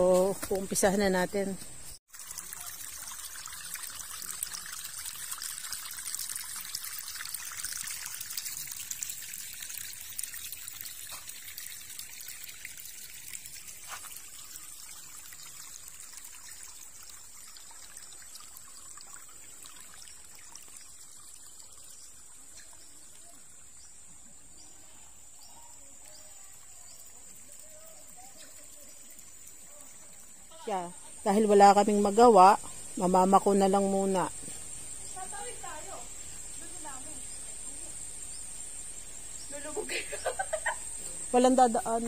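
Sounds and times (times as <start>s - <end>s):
river water running: 0.0s - 42.0s.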